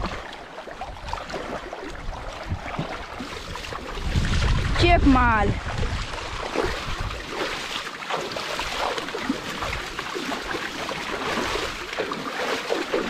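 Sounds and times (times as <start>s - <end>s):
creek water sloshing and splashing: 0.0s - 13.0s.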